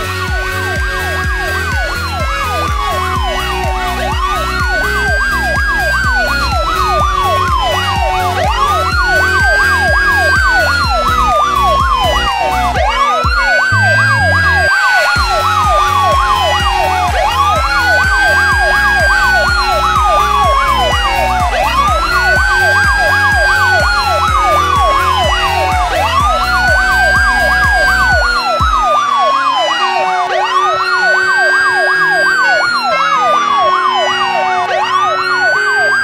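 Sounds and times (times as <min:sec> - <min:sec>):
electronic siren wailing and yelping: 0:00.0 - 0:36.0
music with a steady beat: 0:00.0 - 0:36.0.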